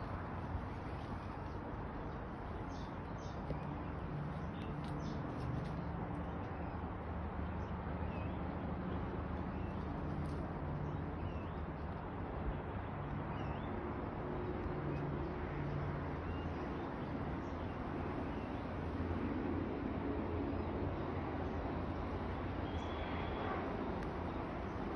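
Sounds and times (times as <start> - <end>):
distant traffic rumble: 0.0 - 24.9.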